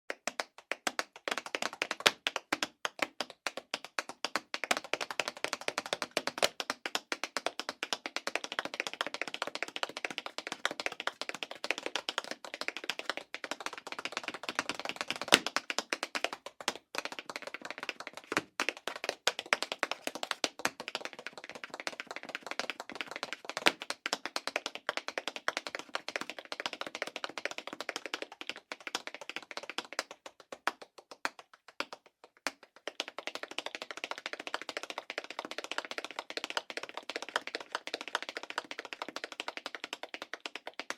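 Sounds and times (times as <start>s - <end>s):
tap shoes on hard floor: 0.1s - 40.9s.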